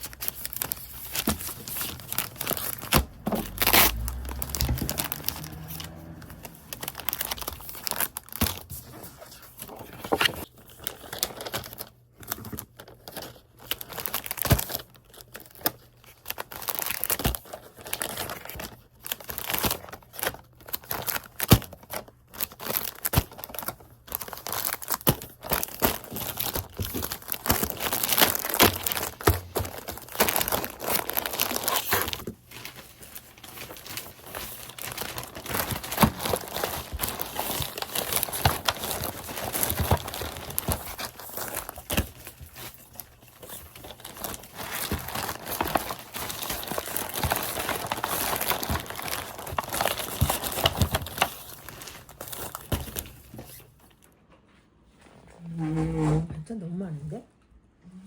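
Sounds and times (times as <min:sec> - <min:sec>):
packaging crinkling and tearing: 0:00.0 - 0:54.1.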